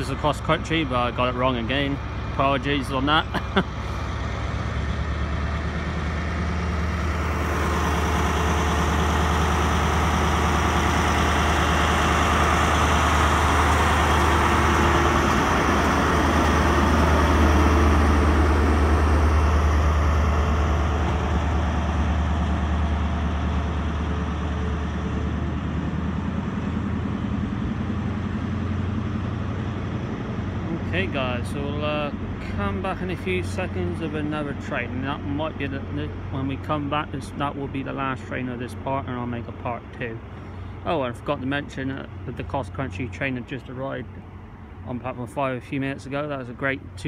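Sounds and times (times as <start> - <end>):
diesel locomotive engine droning: 0.0 - 47.0
train carriages rolling past: 0.0 - 47.0.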